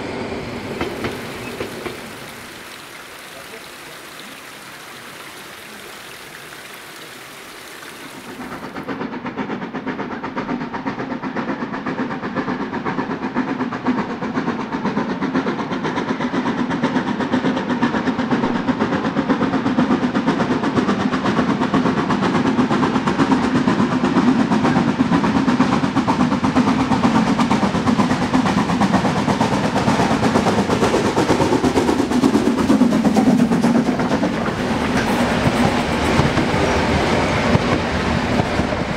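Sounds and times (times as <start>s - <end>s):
steady steam hiss: 0.0s - 38.9s
steam locomotive exhaust beats: 0.0s - 38.9s.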